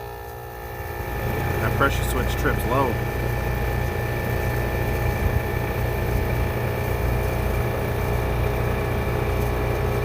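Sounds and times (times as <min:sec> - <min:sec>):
heat pump humming: 0:00.0 - 0:10.0.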